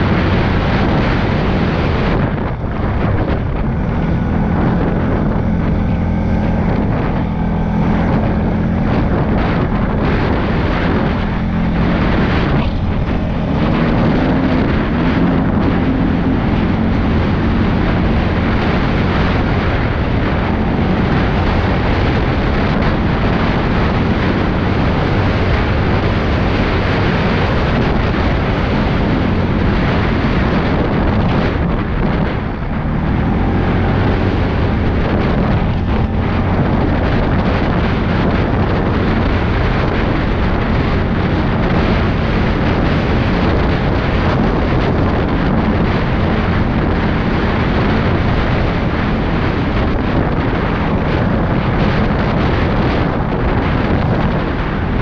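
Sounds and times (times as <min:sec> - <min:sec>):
atv engine running hard: 0:00.0 - 0:55.0
wind buffeting microphone: 0:00.0 - 0:55.0.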